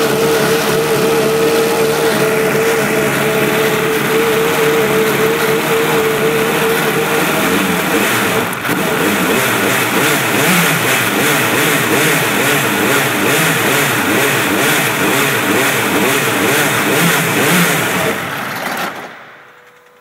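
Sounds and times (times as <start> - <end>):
racing engine running: 0.0 - 20.0.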